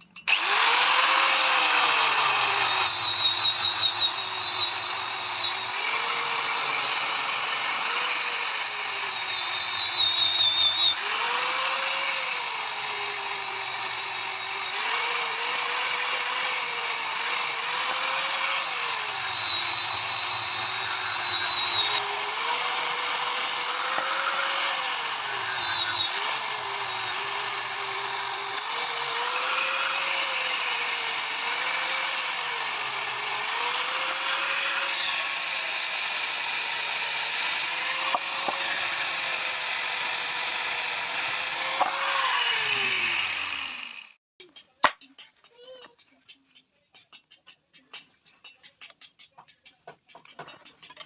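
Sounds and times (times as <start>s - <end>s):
electric power tool on metal: 0.0s - 44.2s.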